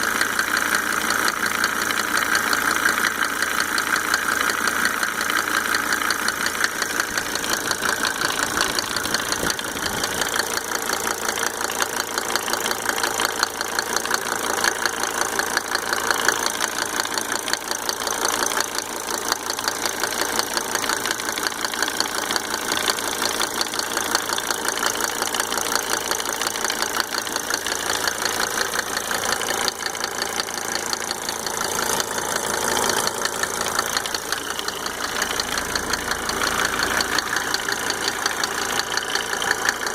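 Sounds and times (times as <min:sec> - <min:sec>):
diesel engine ticking clatter: 0:00.0 - 0:39.9.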